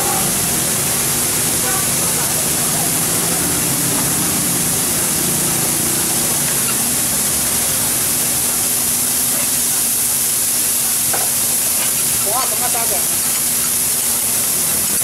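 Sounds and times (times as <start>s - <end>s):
bean sprouts sizzling on griddle: 0.0s - 15.0s.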